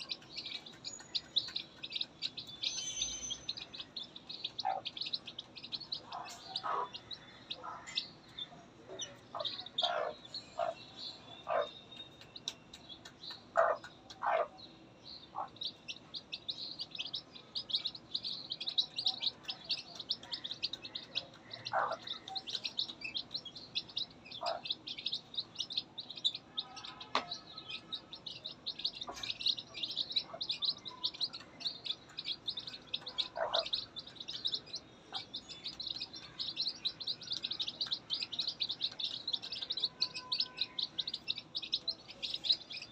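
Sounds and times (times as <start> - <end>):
chicks peeping: 0.0 - 42.9
hen clucking: 3.5 - 10.8, 12.4 - 14.6, 15.4 - 16.3, 17.0 - 42.9.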